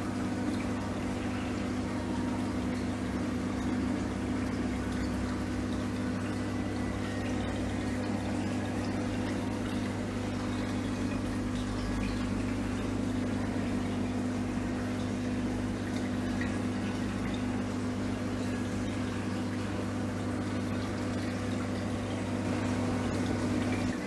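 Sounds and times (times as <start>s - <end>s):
aquarium pumps humming: 0.0s - 24.0s
water circulating: 0.0s - 24.0s.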